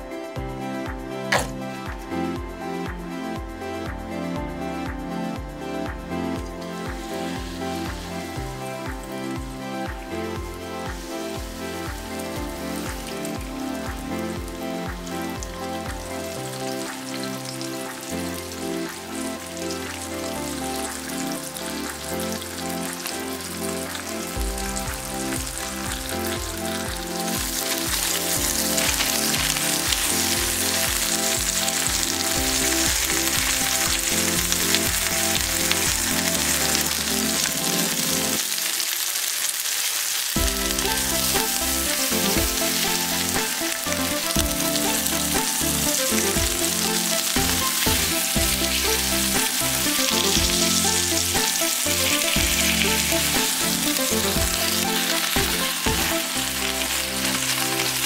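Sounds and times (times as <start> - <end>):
fish sizzling in a frying pan: 7.0 - 9.2, 10.5 - 58.0.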